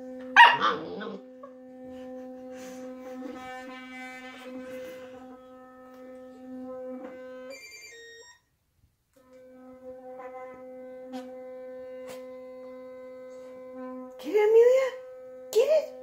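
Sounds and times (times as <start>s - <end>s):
electric toothbrush buzzing: 0.0s - 8.5s, 9.2s - 16.0s.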